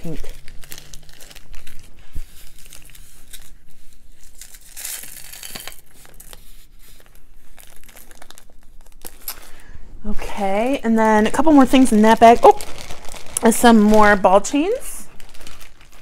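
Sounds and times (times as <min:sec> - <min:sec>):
plastic bag crinkling: 0:00.0 - 0:09.7, 0:10.6 - 0:16.0.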